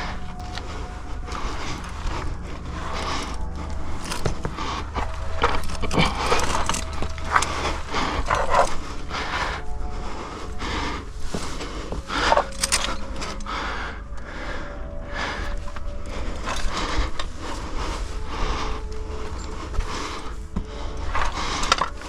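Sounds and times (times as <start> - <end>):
gear scraping against rock: 0.0 - 22.0
hard breathing: 0.0 - 22.0.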